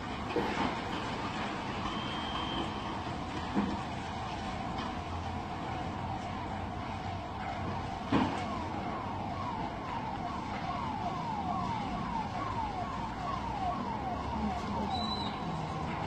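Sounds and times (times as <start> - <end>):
emergency siren wailing: 0.0 - 16.0.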